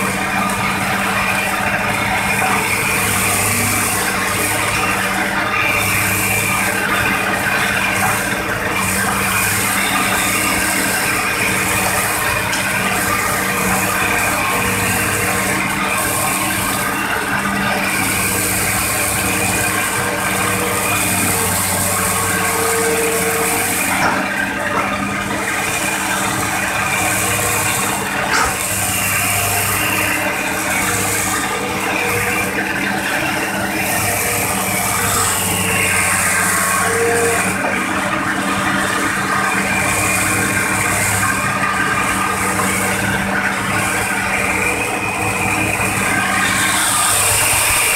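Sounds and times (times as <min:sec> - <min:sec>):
excavator diesel engine and hydraulics: 0:00.0 - 0:47.9.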